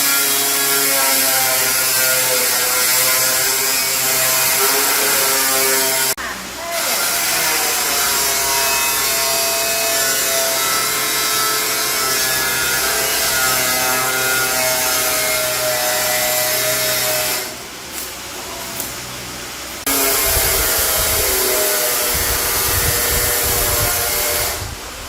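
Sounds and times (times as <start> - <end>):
power tool grinding: 0.0 - 6.2, 6.8 - 17.6, 19.8 - 24.8.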